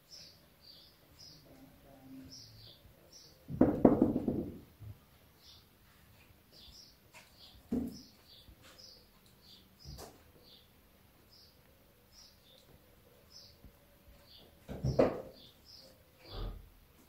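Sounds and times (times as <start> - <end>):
small birds chirping: 0.0 - 4.2, 5.0 - 17.0.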